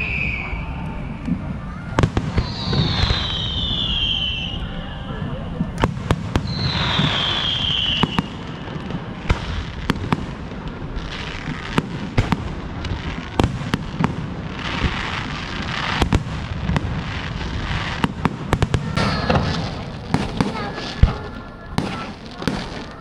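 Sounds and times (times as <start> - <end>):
falling firework whistle: 0.0 - 10.2, 11.1 - 23.0
firework bangs: 0.0 - 23.0
firework crackling hiss: 0.0 - 23.0.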